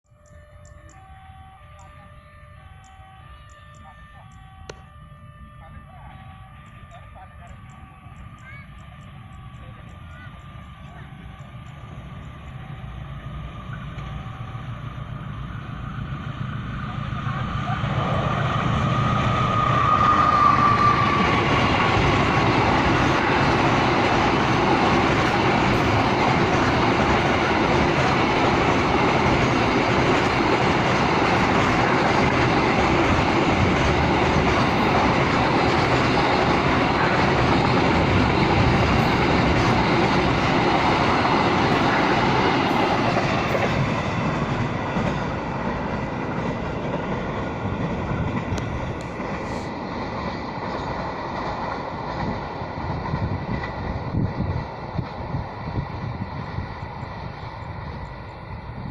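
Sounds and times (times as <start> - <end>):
freight train wheels clacking: 6.5 - 58.9.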